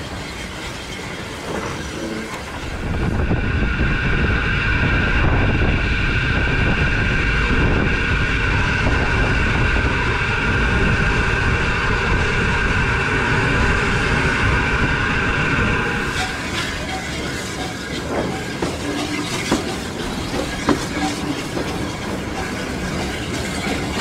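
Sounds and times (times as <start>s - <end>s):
steam hiss: 0.0s - 24.0s
steam train rumbling: 0.0s - 24.0s.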